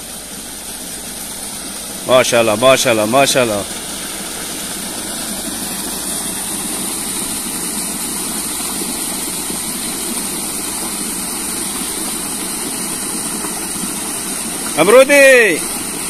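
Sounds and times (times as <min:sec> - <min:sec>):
water gushing into pool: 0:00.0 - 0:16.0.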